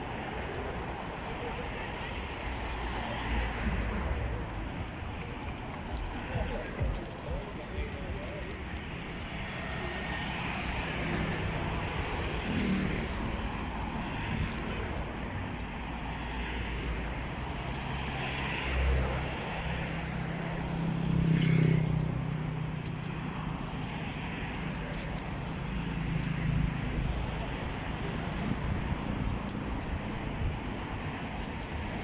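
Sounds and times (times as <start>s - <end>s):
road traffic hum: 0.0s - 32.0s.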